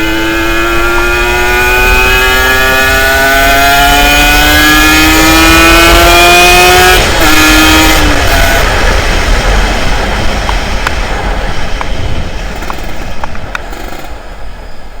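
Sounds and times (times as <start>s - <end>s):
loud rumbling vehicle: 0.0s - 15.0s.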